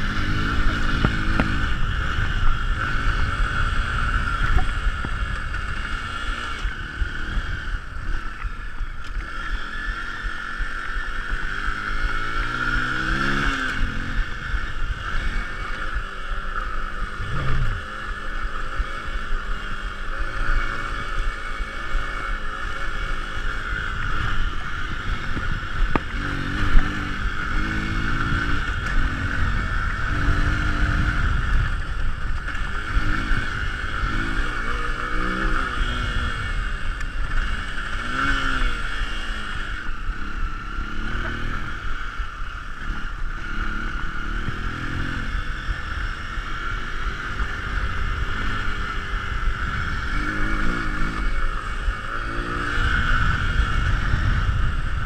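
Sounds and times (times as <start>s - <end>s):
motorcycle engine revving: 0.0s - 55.0s
wind rumble on microphone: 0.0s - 55.0s.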